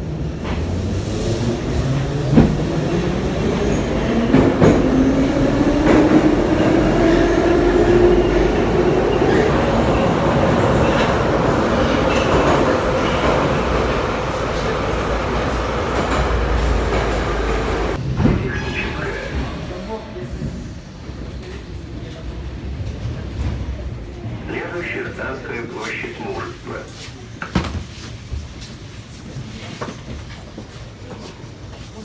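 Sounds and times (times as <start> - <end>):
train car rumble: 0.0 - 32.0.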